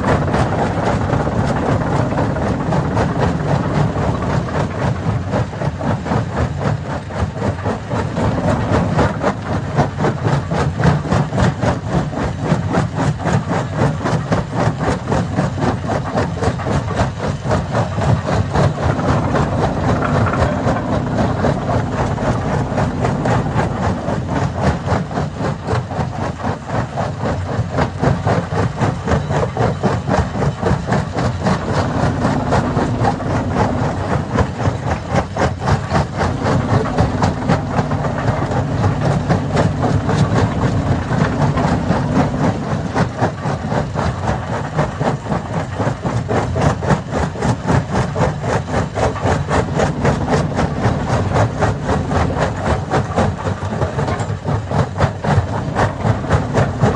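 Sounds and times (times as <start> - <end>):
low mechanical rumble: 0.0 - 56.9.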